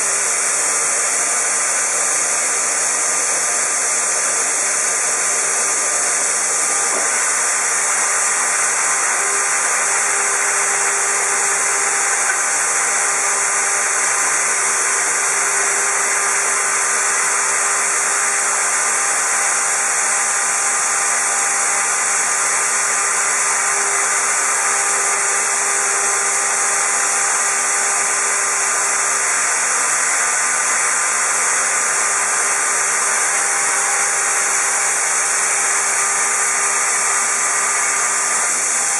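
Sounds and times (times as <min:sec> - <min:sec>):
router high hiss: 0:00.0 - 0:38.9.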